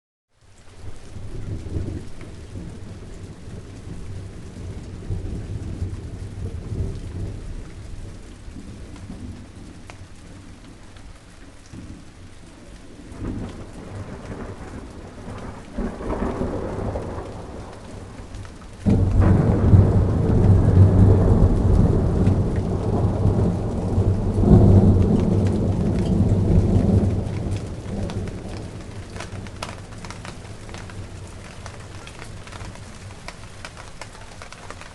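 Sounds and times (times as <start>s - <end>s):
rain falling: 0.3s - 34.9s
thunder rumbling: 0.8s - 34.9s.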